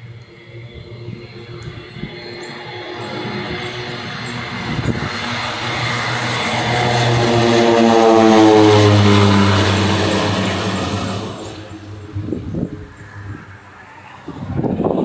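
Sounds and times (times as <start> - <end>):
propeller plane passing overhead: 0.0 - 15.0.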